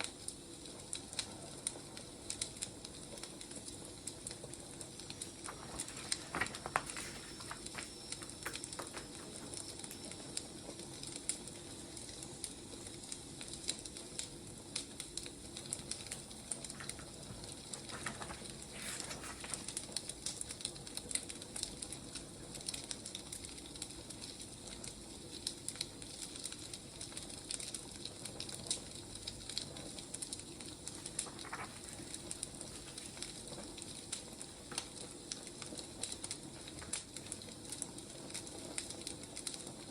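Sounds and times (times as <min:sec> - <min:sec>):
fire hissing: 0:00.0 - 0:39.9
firewood crackling and popping: 0:00.0 - 0:39.9.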